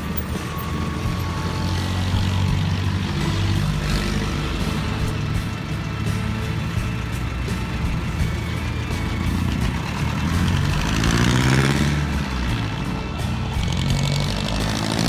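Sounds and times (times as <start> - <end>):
music playing: 0.0 - 15.0
vehicle engine running: 0.0 - 15.0.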